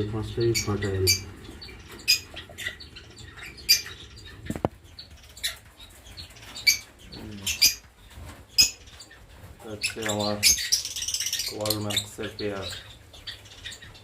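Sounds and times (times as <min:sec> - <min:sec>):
lovebirds chirping: 0:00.0 - 0:14.0.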